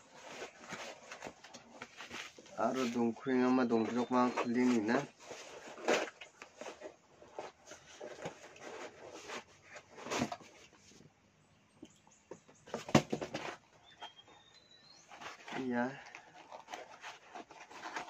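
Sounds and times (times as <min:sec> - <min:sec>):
cardboard rustling and scraping: 0:00.0 - 0:11.1, 0:12.6 - 0:18.0.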